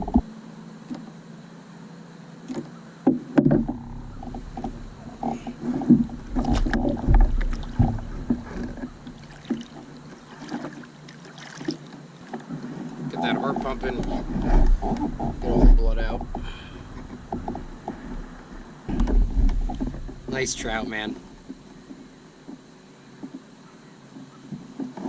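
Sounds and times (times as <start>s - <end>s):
knocks and thumps in a kayak: 0.0s - 0.3s, 2.5s - 22.6s.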